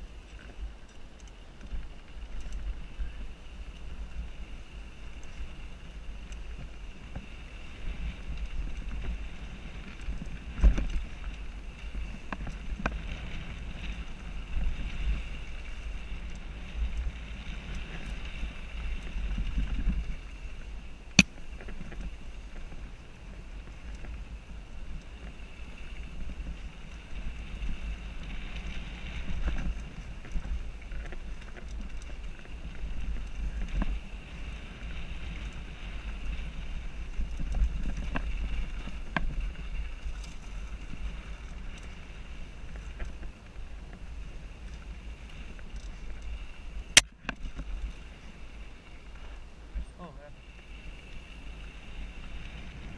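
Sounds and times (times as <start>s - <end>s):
bike rattles: 0.0s - 50.0s
wind buffeting camera: 0.0s - 52.9s.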